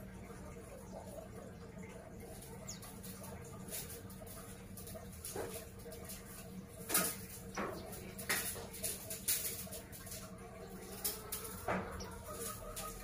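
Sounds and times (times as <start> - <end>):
birds tapping on cage bars: 0.6 - 13.0.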